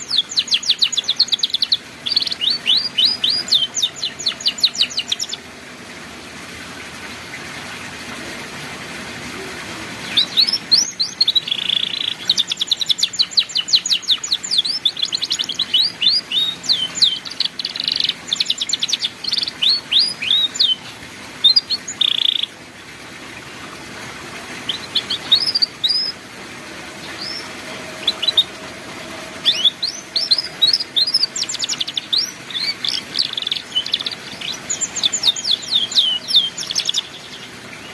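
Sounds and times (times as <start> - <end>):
canary singing trills: 0.0 - 5.5, 10.0 - 22.6, 24.6 - 26.3, 26.9 - 37.9.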